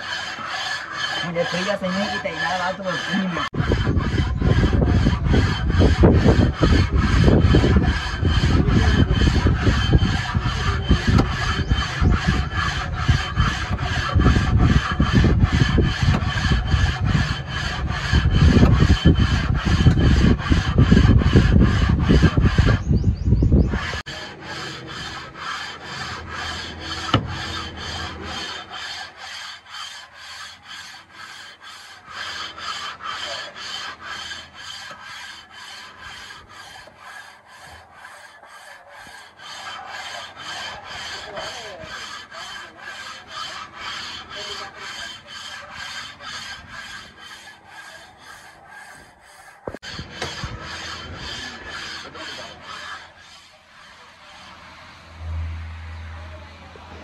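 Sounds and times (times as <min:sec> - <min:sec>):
metal plate scraping on engine block: 0:00.0 - 0:22.9, 0:23.6 - 0:56.2.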